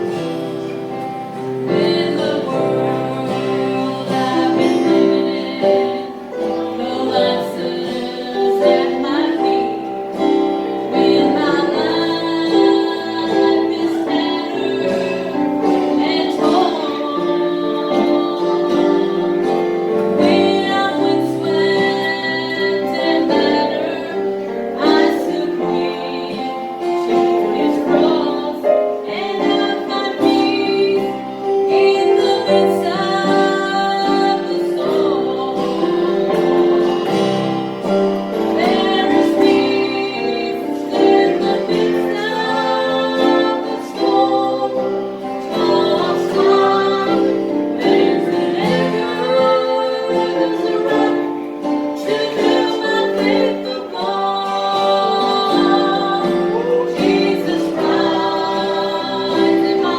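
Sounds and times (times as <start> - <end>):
instrumental accompaniment: 0.0 - 59.9
woman singing gospel: 0.0 - 59.9.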